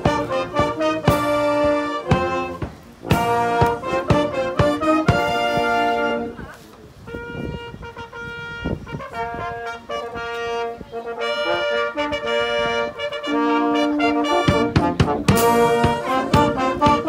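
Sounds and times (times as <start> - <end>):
brass band playing chords: 0.0 - 17.0.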